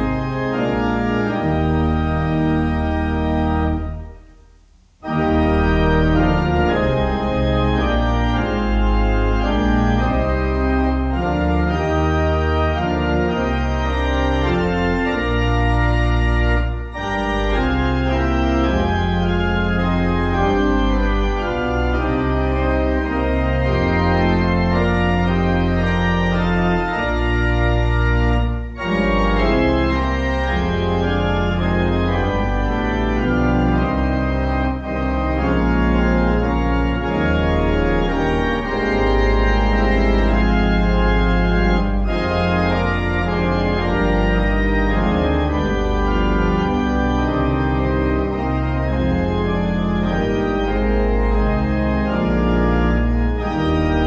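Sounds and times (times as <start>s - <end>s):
organ playing hymn tune: 0.0s - 54.0s.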